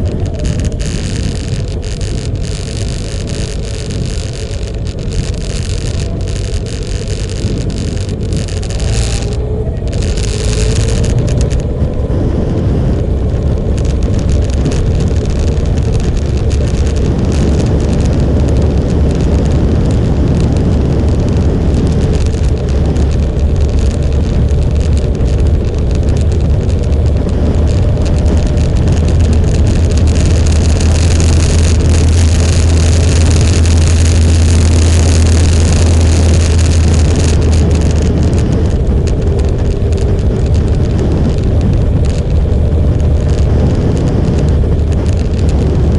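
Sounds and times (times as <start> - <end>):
motorcycle engine drone: 0.0 - 45.9
road noise rush: 0.0 - 45.9.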